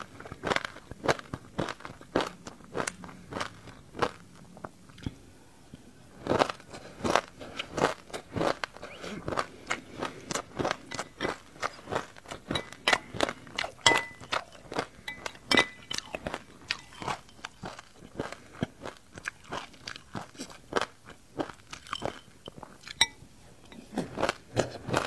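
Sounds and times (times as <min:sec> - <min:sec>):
crunchy chewing: 0:00.0 - 0:05.2, 0:06.1 - 0:25.0.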